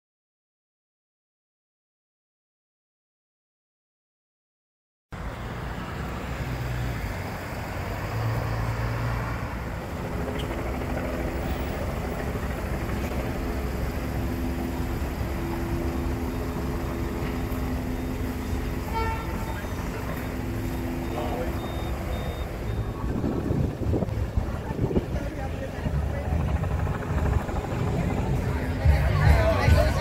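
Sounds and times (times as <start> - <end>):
engine humming: 5.2 - 30.0
low vehicle rumble: 5.2 - 30.0.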